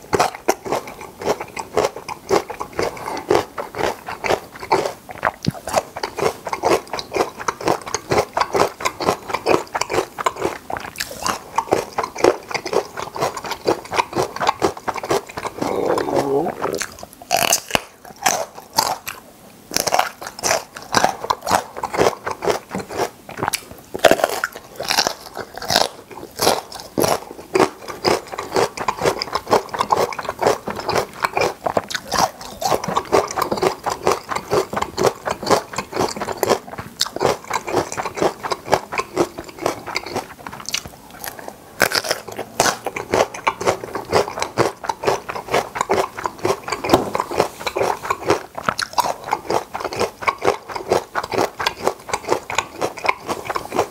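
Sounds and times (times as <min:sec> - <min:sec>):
person crunching and chewing food: 0:00.0 - 0:53.9.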